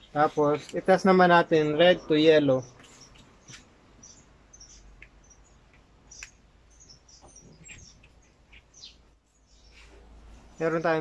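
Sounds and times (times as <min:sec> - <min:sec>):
faint bird chirps: 0:01.6 - 0:11.0.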